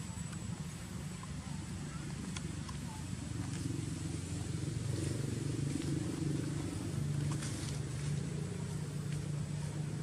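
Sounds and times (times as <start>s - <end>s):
motor engine humming: 0.0s - 10.0s.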